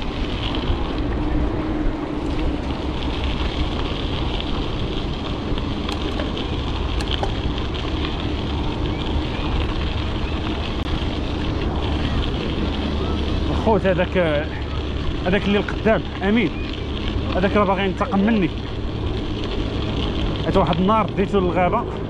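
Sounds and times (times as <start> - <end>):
bike tyre rumble: 0.0 - 22.0
wind buffeting microphone: 0.0 - 22.0.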